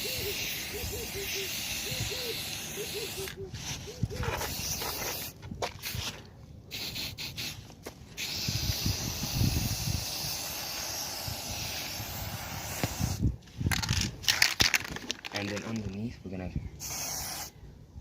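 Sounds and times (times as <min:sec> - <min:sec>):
spray paint can hissing: 0:00.0 - 0:15.0, 0:16.8 - 0:17.5.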